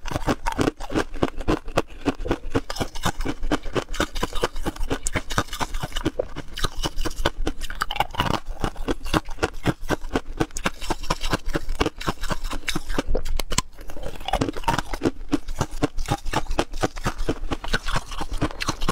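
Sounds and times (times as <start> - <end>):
ice cubes crunching in mouth: 0.0 - 18.9.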